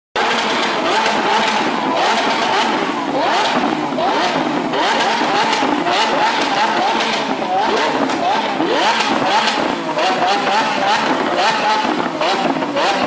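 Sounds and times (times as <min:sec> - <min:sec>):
car engine revving: 0:00.2 - 0:13.0
exhaust rumble: 0:00.2 - 0:13.0.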